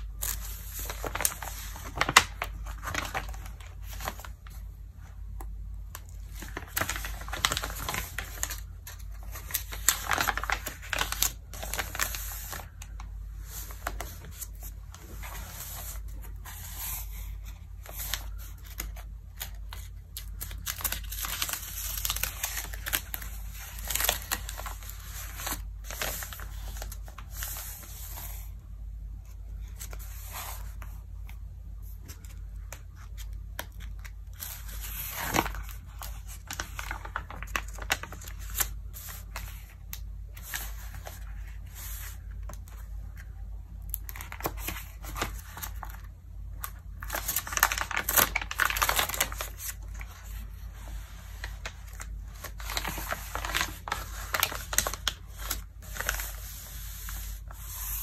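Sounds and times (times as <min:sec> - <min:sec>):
magazine pages crinkling: 0:00.0 - 0:04.7, 0:05.3 - 0:28.5, 0:31.9 - 0:43.3, 0:43.9 - 0:58.0.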